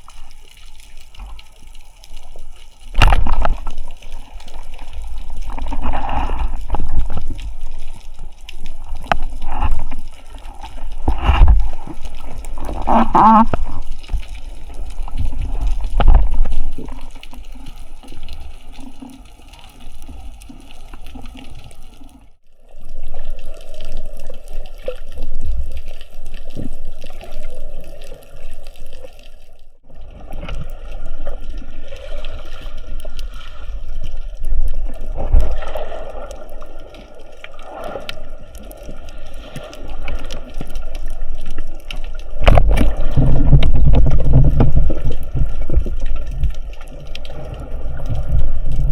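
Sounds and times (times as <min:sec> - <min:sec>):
water sloshing and bubbling: 0:00.0 - 0:48.9.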